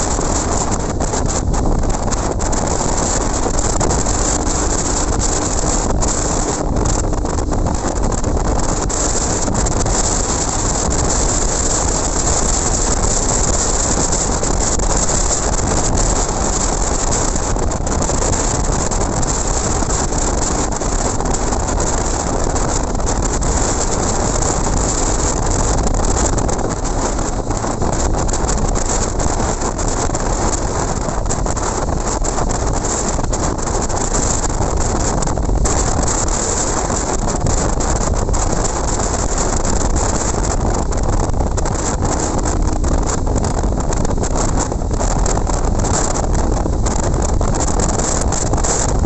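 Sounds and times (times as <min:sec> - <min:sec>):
motorcycle engine running: 0:00.0 - 0:49.0
wind rushing over microphone: 0:00.0 - 0:49.0.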